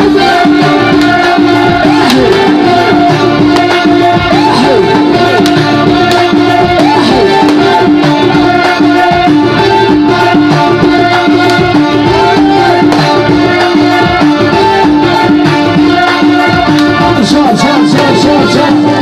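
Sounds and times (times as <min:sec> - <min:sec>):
hand-drum rhythm: 0:00.0 - 0:19.0.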